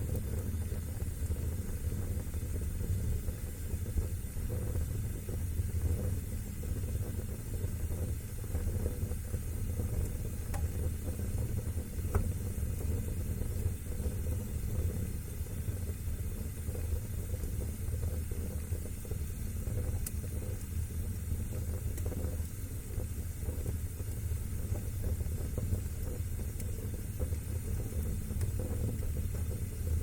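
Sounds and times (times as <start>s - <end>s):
fire crackles: 0.0s - 30.0s
flames rushing: 0.0s - 30.0s.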